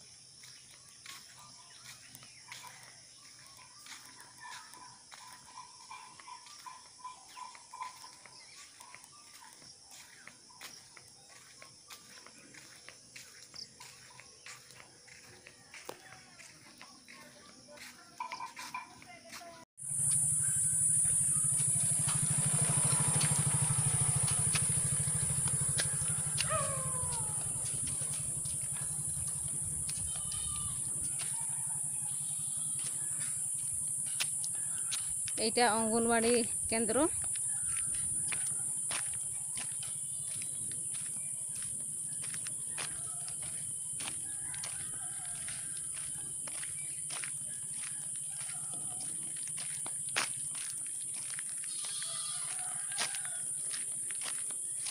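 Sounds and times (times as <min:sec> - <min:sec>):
insects trilling: 0:00.0 - 0:54.9
motorcycle engine running: 0:00.1 - 0:54.9.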